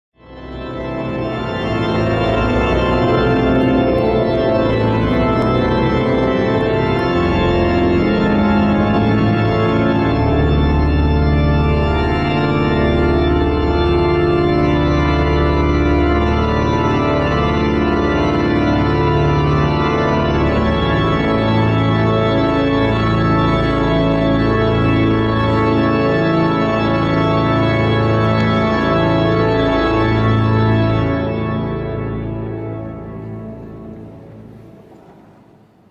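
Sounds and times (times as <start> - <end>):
church organ playing slow chords: 0.2 - 35.9.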